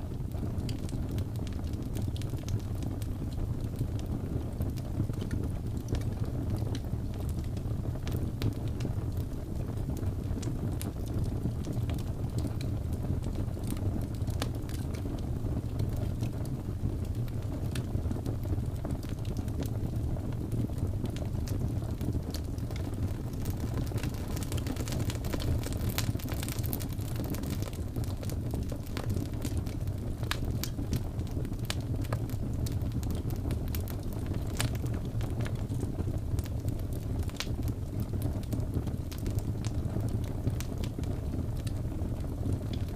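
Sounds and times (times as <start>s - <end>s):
fire crackling and popping: 0.0s - 42.9s
wood fire rumbling: 0.0s - 42.9s.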